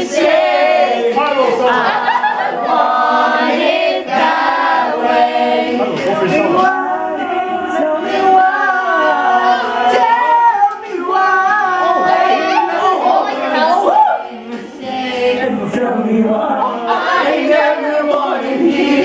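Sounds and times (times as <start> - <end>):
group of young men singing: 0.0 - 19.0.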